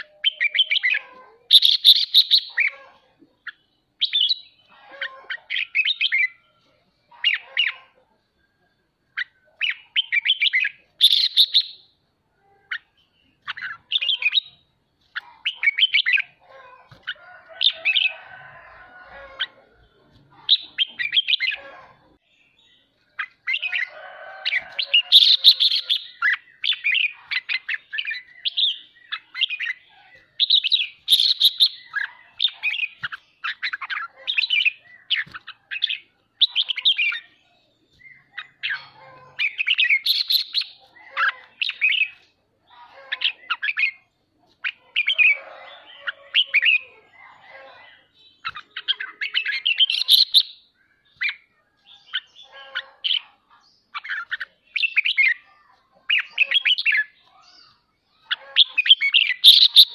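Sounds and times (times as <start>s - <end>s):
bird singing chattering song: 0.0s - 8.2s, 9.1s - 12.0s, 12.6s - 18.3s, 19.2s - 59.9s.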